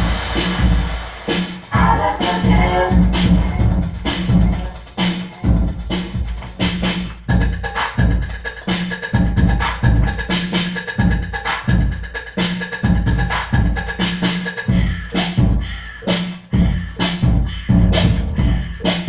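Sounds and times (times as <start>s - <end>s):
drum-machine beat: 0.0s - 19.0s
funk dance music: 0.0s - 19.0s.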